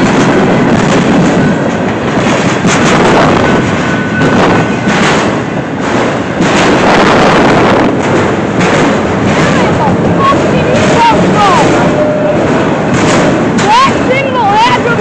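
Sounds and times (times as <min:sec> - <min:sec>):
train wheels on rails: 0:00.0 - 0:15.0
wind buffeting microphone: 0:00.0 - 0:15.0.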